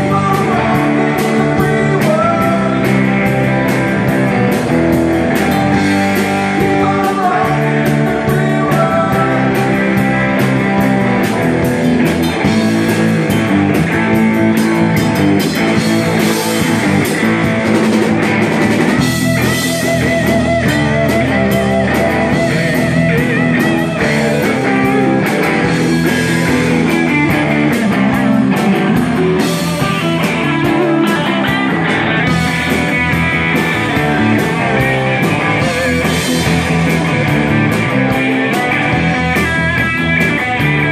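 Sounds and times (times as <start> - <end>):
drum kit: 0.0 - 40.9
electric guitars: 0.0 - 40.9.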